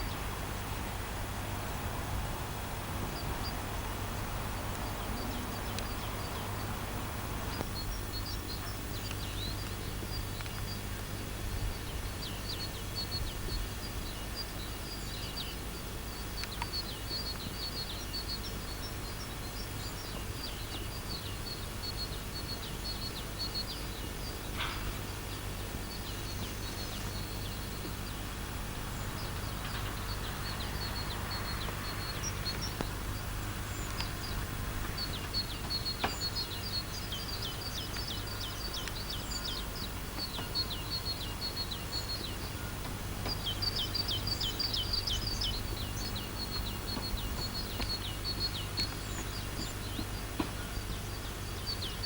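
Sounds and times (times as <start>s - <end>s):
small birds chirping: 0.0s - 52.0s
steady low hum: 0.0s - 52.0s.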